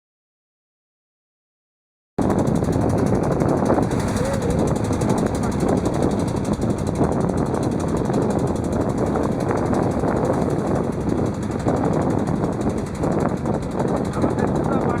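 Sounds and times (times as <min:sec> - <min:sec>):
motorboat engine running: 0:02.2 - 0:15.0
wind rumbling on microphone: 0:02.2 - 0:15.0.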